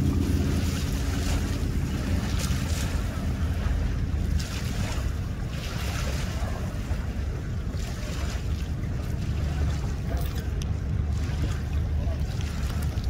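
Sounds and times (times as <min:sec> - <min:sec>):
waves splashing against concrete: 0:00.0 - 0:13.0
wind buffeting microphone: 0:00.0 - 0:13.0.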